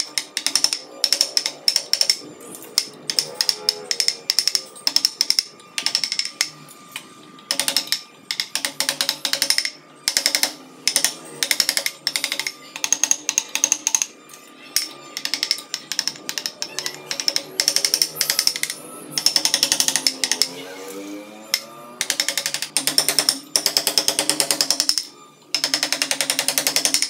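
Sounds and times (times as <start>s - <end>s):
mallet tapping wood chisel: 0.0s - 2.2s, 2.8s - 6.6s, 7.5s - 14.1s, 14.8s - 20.6s, 21.5s - 27.0s.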